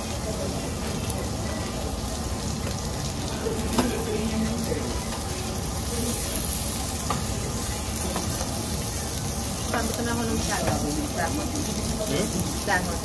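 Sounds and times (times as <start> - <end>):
beef sizzling on a grill plate: 0.0 - 13.0.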